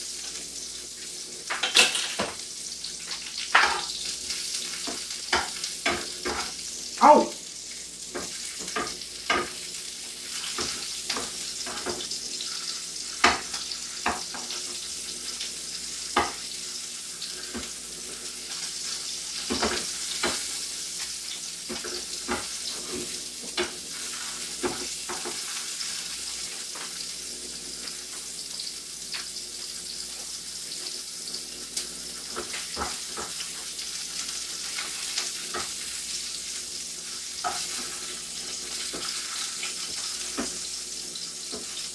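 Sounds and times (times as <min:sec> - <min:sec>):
sausages sizzling in oil: 0:00.0 - 0:41.9.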